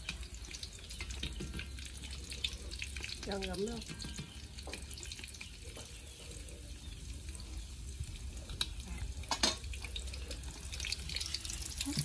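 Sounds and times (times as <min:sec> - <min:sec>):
tofu sizzling in oil: 0:00.0 - 0:12.0.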